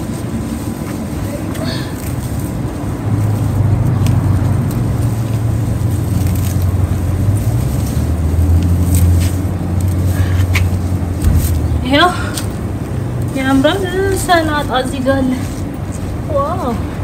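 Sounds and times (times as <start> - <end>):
low engine-like hum: 0.0 - 17.0.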